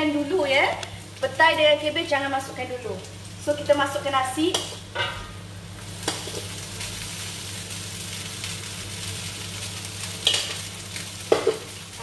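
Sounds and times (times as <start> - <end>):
paste sizzling in a wok: 0.0 - 12.0.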